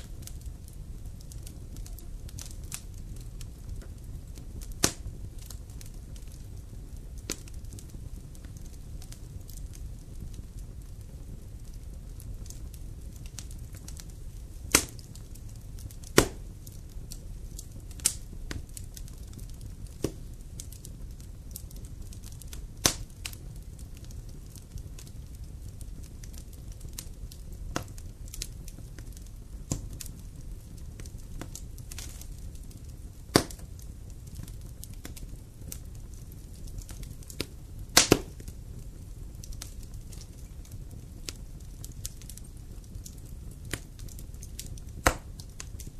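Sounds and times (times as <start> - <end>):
campfire crackling: 0.0 - 45.9.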